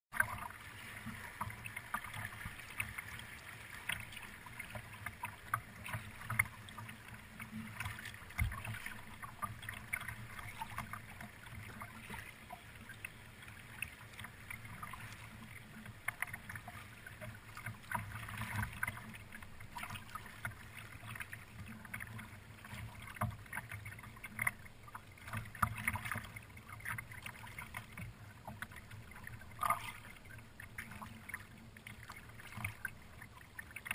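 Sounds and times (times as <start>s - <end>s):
water slapping kayak hull: 0.1s - 33.9s.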